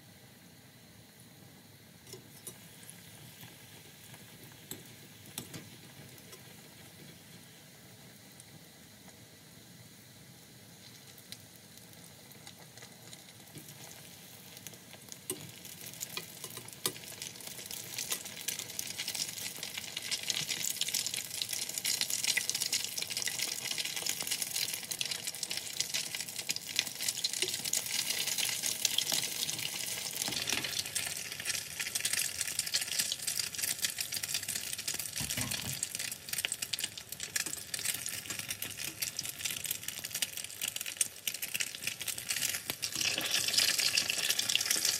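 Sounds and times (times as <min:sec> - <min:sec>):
deep-frying sizzle: 0:00.0 - 0:44.9.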